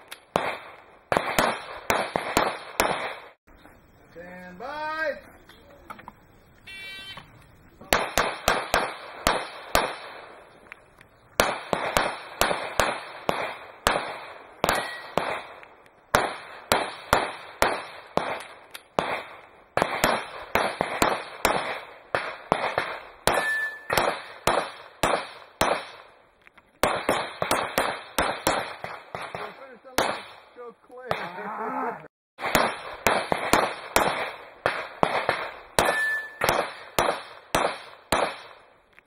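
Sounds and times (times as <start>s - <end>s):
rapid pistol shots: 0.0s - 3.4s, 7.9s - 10.4s, 11.4s - 26.2s, 26.8s - 31.3s, 32.4s - 38.7s.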